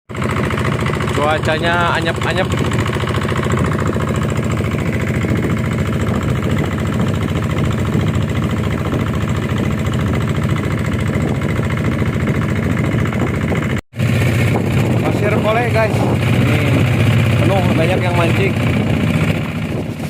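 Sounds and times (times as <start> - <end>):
boat engine running steadily: 0.1 - 20.0.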